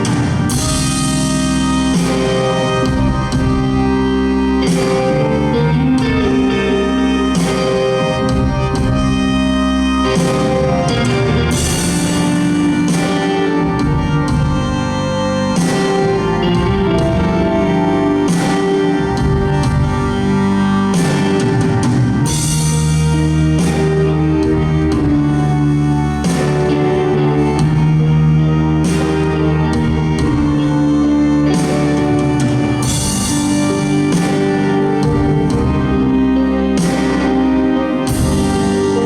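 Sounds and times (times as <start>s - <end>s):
drums: 0.0s - 39.0s
electric guitar: 0.0s - 39.0s.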